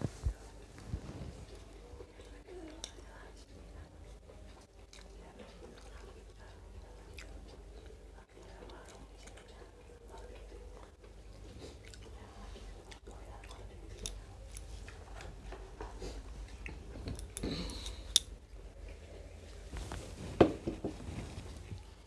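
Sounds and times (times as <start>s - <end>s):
soft chewing: 0.0s - 20.2s.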